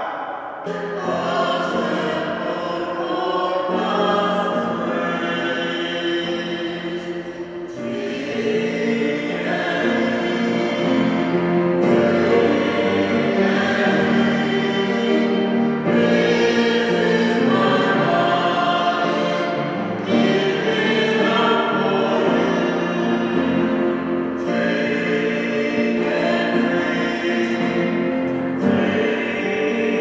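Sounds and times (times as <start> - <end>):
choir singing church music: 0.0 - 30.0
piano accompaniment: 0.6 - 30.0.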